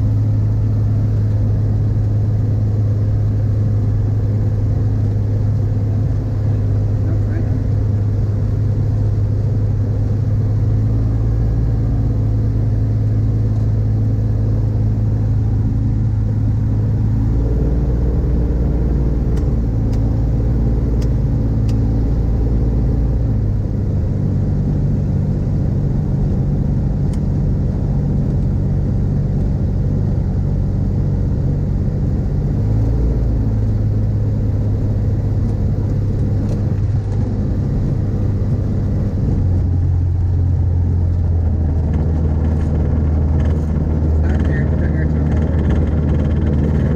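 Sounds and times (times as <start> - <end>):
microlight engine running: 0.0 - 46.9.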